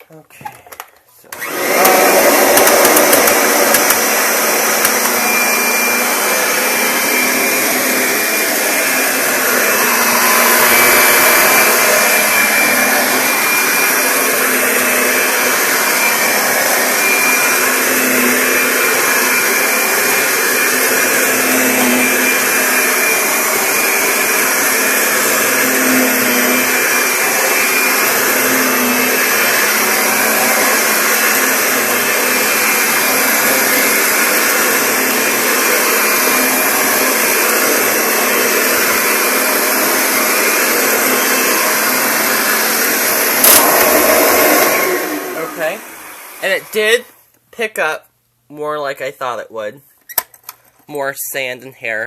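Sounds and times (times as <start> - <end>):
vacuum cleaner running: 1.3 - 47.2.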